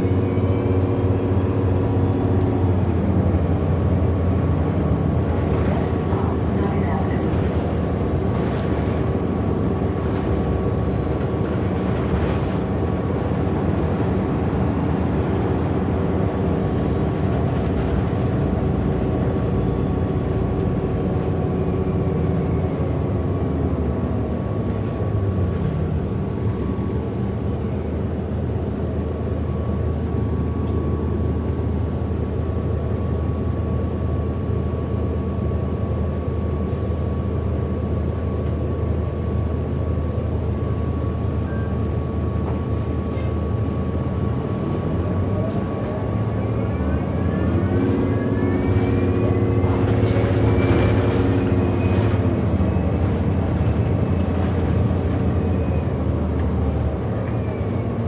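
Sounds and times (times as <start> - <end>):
bus drivetrain hum: 0.0 - 58.0.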